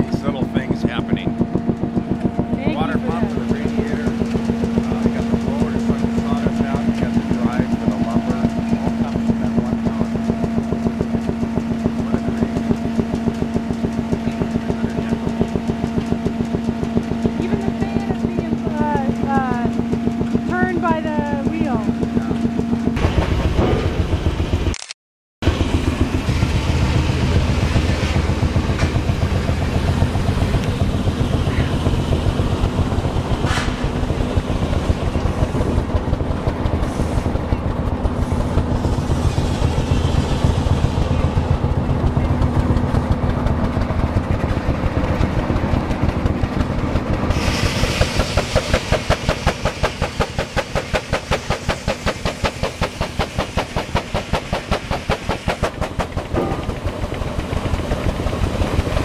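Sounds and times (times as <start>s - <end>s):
steam engine rhythmic rumble: 0.0s - 24.6s, 25.4s - 59.0s
steam exhaust hissing and chuffing: 0.0s - 24.7s, 25.4s - 59.0s.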